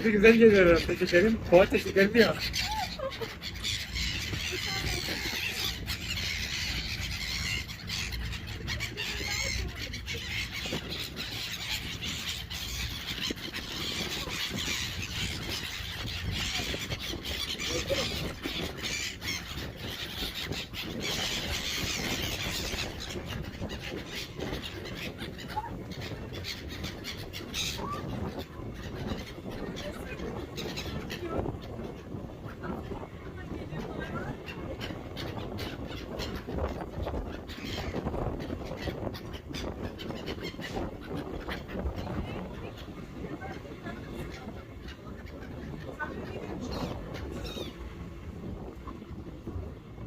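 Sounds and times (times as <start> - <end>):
seagulls squealing and squawking: 0.0 - 50.0.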